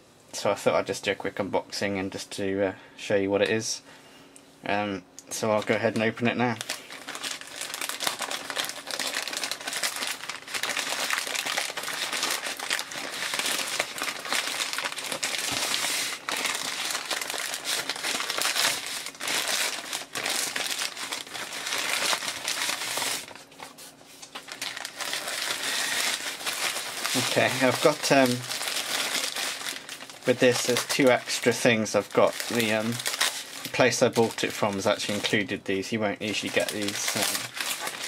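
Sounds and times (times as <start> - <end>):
plastic bag crinkling and tearing: 5.4 - 35.6, 36.2 - 38.0.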